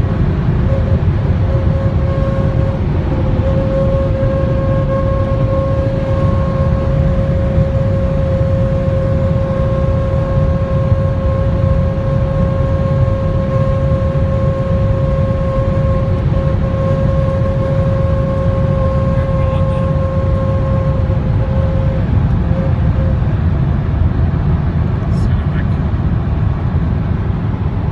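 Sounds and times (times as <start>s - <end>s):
high constant-pitch howl: 0.0s - 27.9s
road and wind noise: 0.0s - 27.9s.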